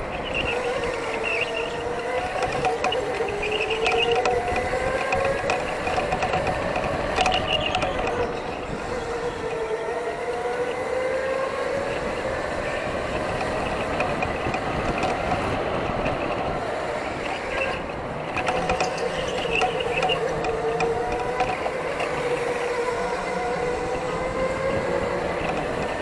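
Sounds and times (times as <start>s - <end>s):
electric go-kart motor whining: 0.0s - 26.0s.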